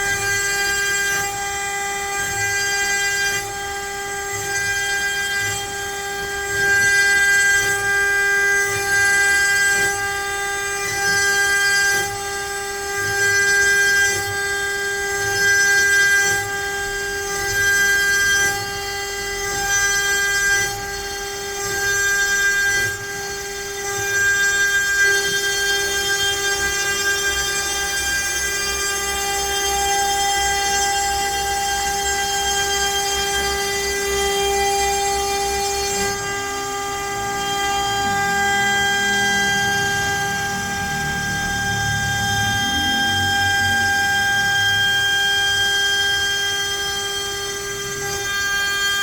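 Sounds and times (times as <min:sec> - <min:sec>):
router spindle cutting wood: 0:00.0 - 0:49.0.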